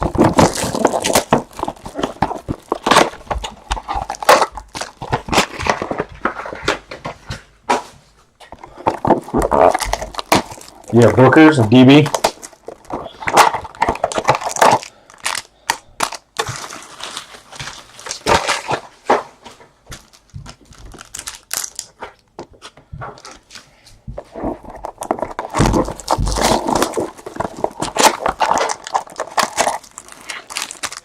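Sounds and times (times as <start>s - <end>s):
card pack wrappers crinkling: 0.0s - 7.1s, 8.6s - 19.2s, 19.9s - 23.6s, 24.3s - 31.0s.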